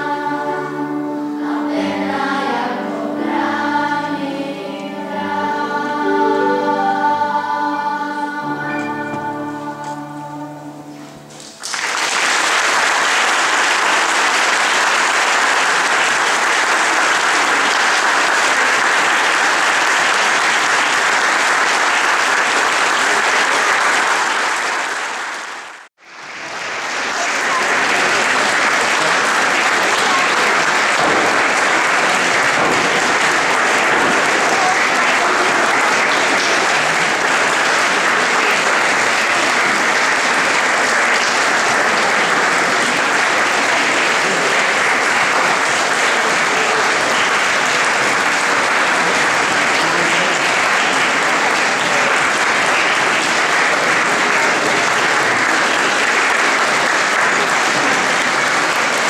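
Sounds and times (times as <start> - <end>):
audience applauding: 11.3 - 59.0.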